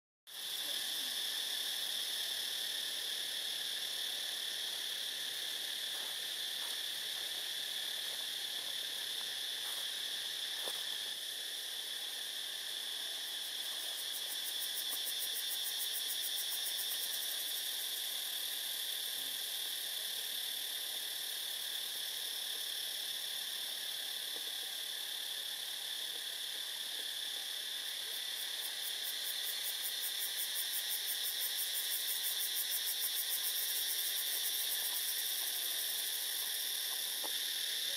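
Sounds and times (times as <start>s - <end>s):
fast pulsing insect buzz: 0.3s - 37.9s
insect chorus drone: 0.3s - 37.9s.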